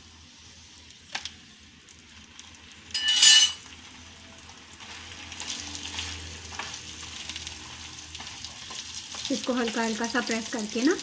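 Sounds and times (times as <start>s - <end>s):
ghee sizzling in frying pan: 0.0s - 11.0s.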